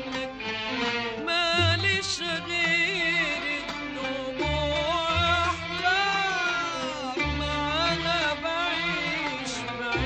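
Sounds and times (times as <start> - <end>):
orchestra low bass: 0.0 - 10.0.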